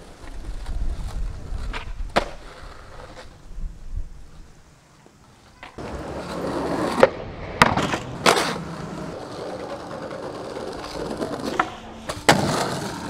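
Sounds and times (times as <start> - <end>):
skateboard clacking on ground: 0.0 - 3.4, 5.2 - 13.0
skateboard wheels rolling on pavement: 0.0 - 13.0.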